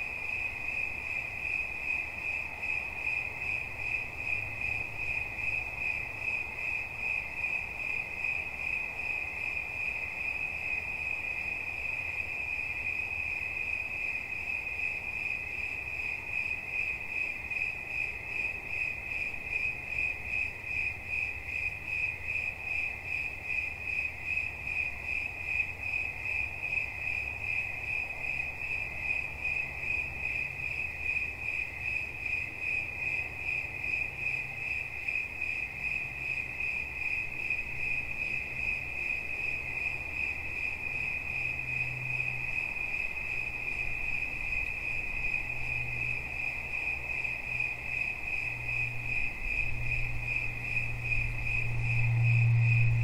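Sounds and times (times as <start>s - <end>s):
cricket chirping: 0.0s - 53.0s.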